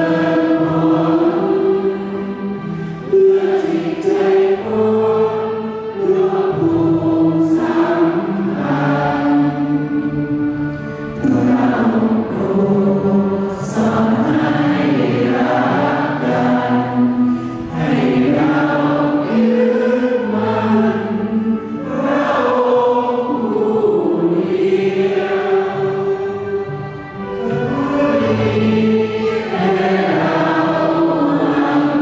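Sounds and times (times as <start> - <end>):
choir singing a slow hymn: 0.0 - 32.0.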